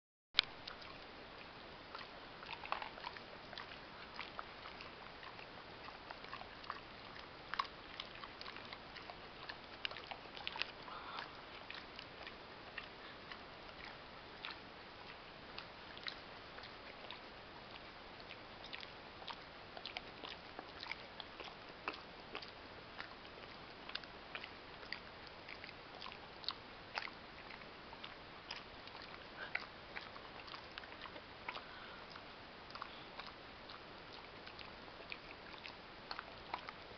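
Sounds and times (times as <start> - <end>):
dog chewing sticky candy: 0.7 - 36.9.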